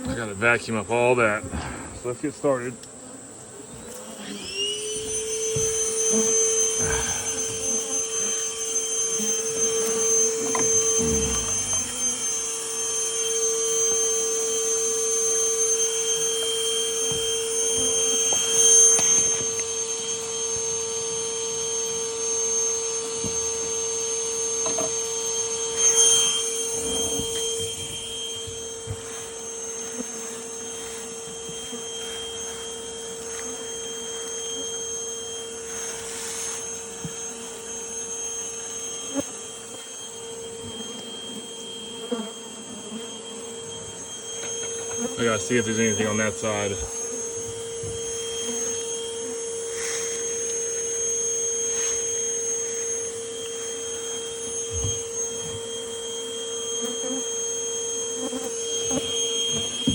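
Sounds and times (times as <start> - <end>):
vacuum motor whining: 0.0 - 59.9.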